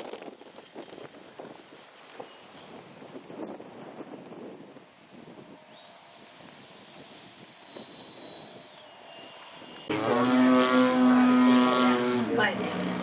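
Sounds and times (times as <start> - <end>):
model airplane high whine: 0.0 - 13.0
model airplane motor and propeller drone: 0.0 - 13.0.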